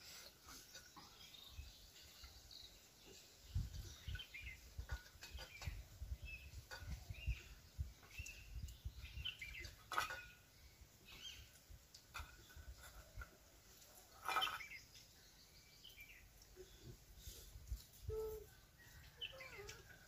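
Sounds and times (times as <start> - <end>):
birds chirping: 0.1 - 13.2, 14.0 - 20.0.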